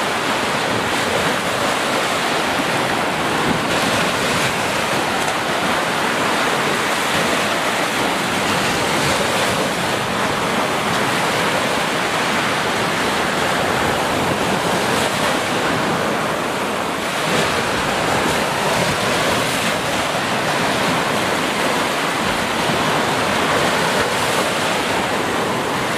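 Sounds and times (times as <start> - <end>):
small waves breaking on a beach: 0.0 - 25.9.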